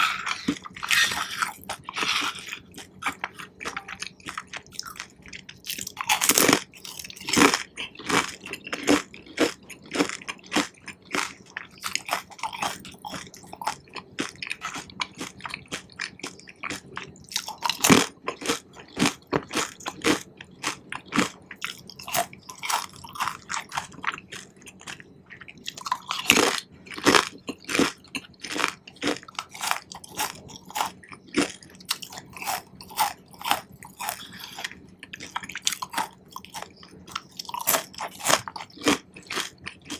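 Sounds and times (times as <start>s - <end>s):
wet sticky chewing: 0.0s - 39.9s.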